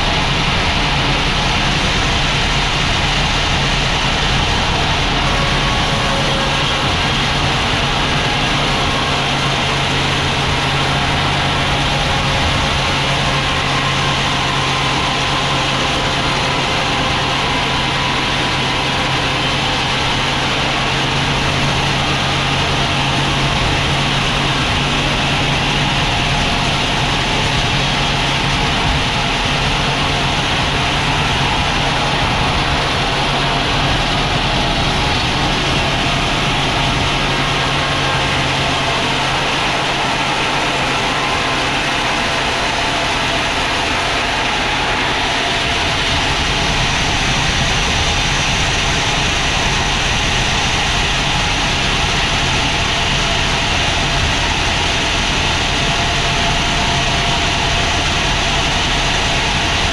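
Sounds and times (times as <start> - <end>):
sawmill machinery hum: 0.0 - 59.9.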